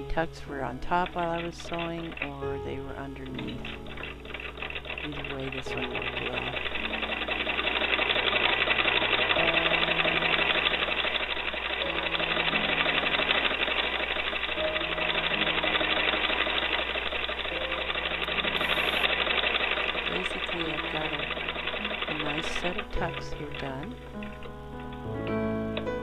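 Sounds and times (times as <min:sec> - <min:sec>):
sewing machine clattering: 0:00.6 - 0:25.1.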